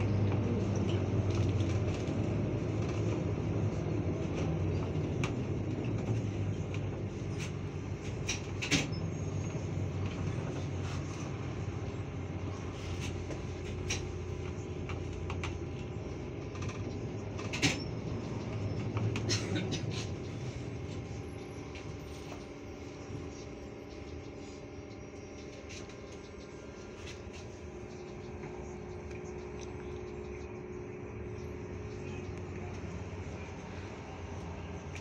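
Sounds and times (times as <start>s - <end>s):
trolleybus hum and road noise: 0.0s - 35.0s.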